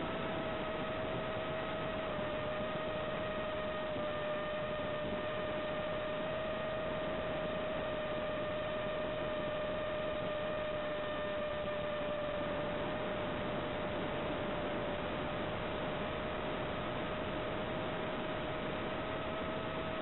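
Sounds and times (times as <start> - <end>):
steady electronic whine with hiss: 0.0 - 20.0.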